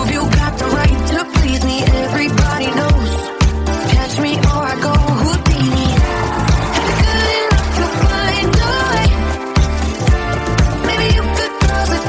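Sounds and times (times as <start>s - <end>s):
electronic dance-pop music: 0.0s - 12.0s.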